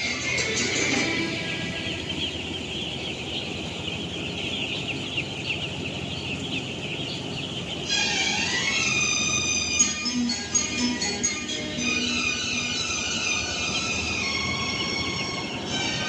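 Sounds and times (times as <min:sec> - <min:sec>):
music: 0:00.0 - 0:03.8, 0:05.6 - 0:16.0
flock of chicks peeping: 0:00.0 - 0:16.0.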